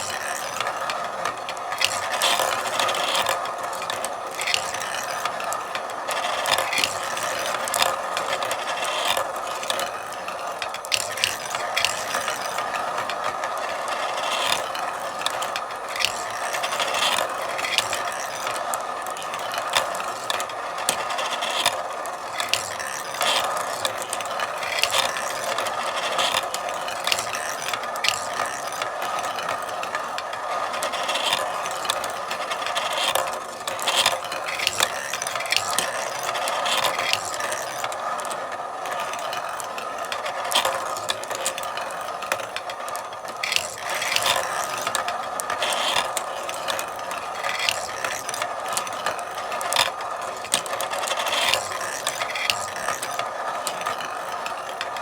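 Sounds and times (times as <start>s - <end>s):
marbles clicking and clacking: 0.0s - 55.0s
marbles rolling on track: 0.0s - 55.0s.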